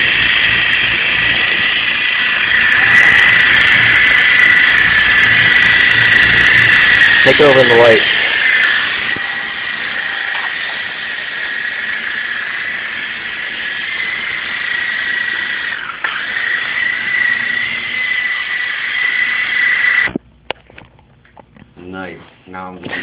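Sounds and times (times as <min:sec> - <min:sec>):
toy helicopter motor whining: 0:00.0 - 0:20.2.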